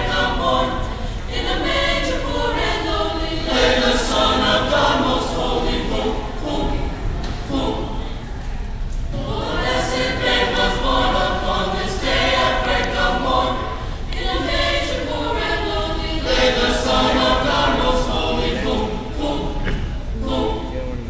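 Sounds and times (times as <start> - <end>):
choir singing: 0.0 - 8.4, 9.1 - 20.9.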